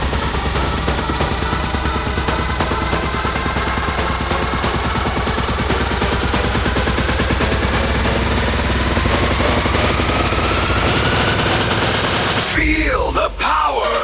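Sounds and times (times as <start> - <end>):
noisy sweep rising in pitch: 0.0 - 12.5
rapid drum roll: 0.0 - 14.0.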